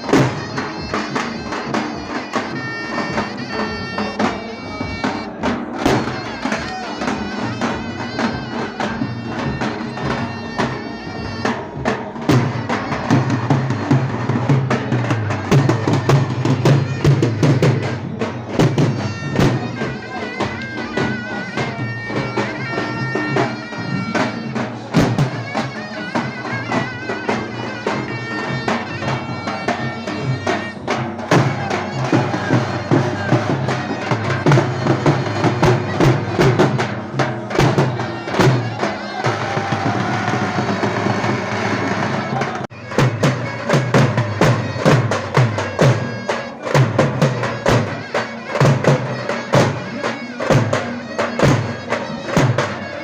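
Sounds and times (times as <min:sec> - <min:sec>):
rapid drum beats: 0:00.0 - 0:53.0
shrill double-reed pipe melody: 0:00.0 - 0:53.0.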